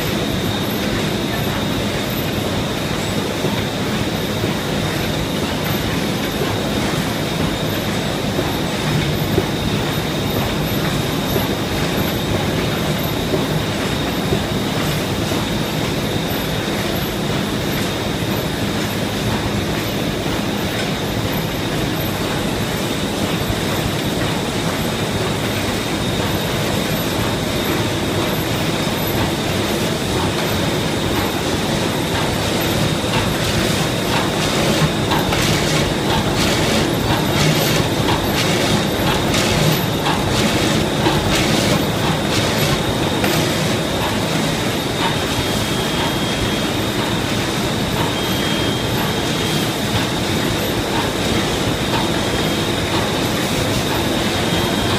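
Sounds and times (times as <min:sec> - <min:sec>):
machine rollers rumbling and clattering: 0:00.0 - 0:54.9.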